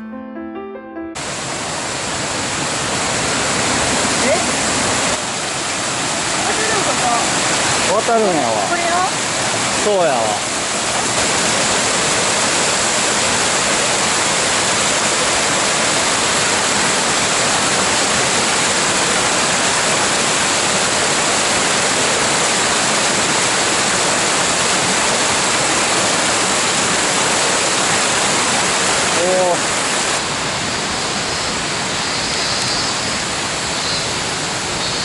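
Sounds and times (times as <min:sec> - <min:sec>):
stream rushing over rocks: 0:01.2 - 0:35.0.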